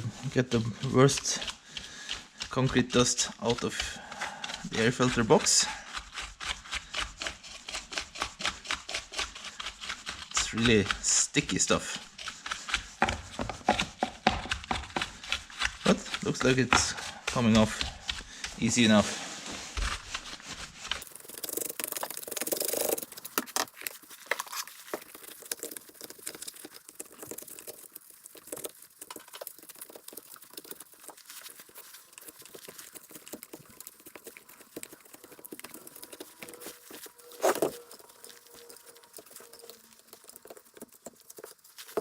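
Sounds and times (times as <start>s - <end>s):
scraping and wiping dust: 0.0s - 25.3s, 31.2s - 42.0s.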